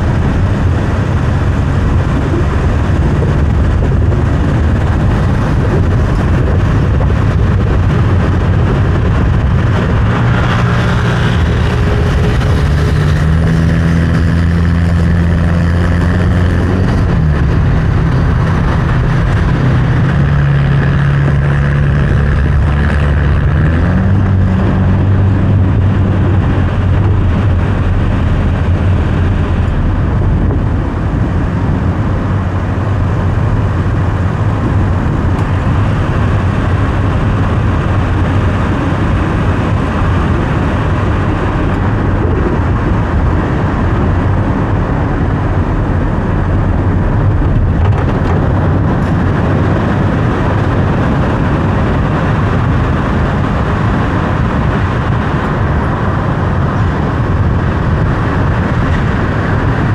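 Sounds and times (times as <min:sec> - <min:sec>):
car engine humming: 0:00.0 - 0:59.9
tyre and road noise: 0:00.0 - 0:59.9.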